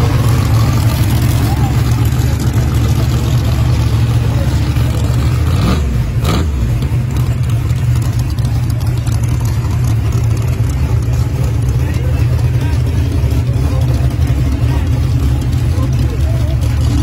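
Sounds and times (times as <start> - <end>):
race car engine idling: 0.0 - 17.0.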